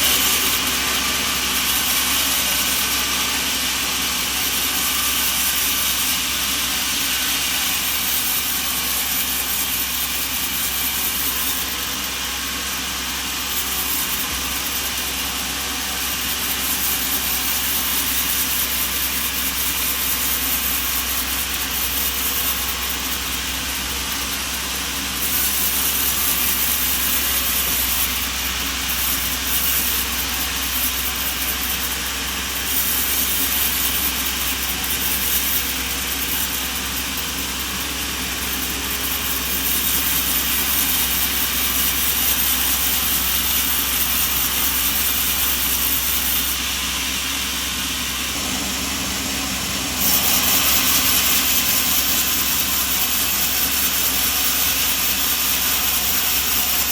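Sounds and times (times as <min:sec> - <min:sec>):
machinery whirring and humming: 0:00.0 - 0:56.9.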